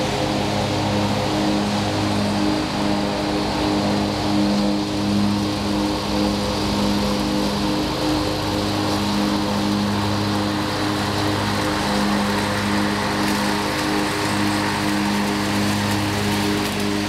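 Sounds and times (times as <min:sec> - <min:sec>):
lawn mower engine droning: 0:00.0 - 0:17.0.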